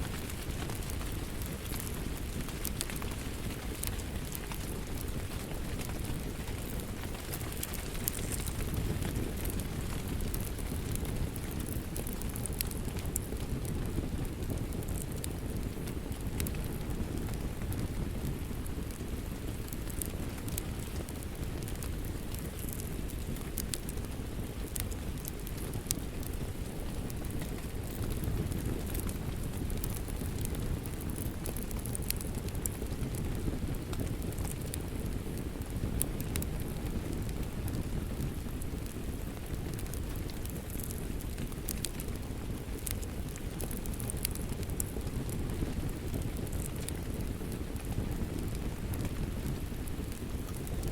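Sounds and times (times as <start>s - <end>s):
rain: 0.0s - 50.9s
wood fire crackling and popping: 0.0s - 50.9s.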